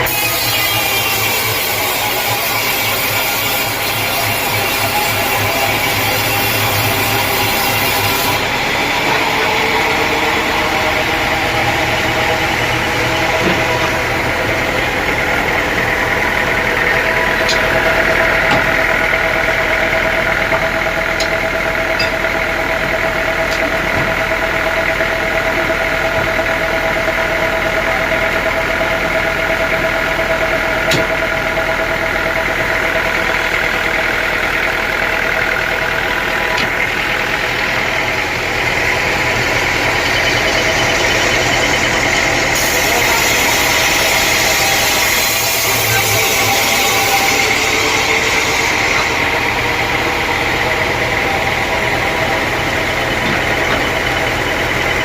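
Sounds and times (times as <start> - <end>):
sawmill machinery whining: 0.0 - 55.0.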